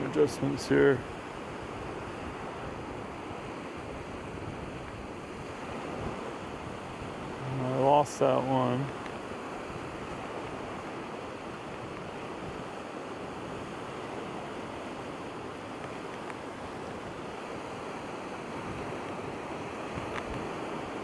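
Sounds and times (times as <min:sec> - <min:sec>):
waves lapping on shore: 0:00.0 - 0:21.0.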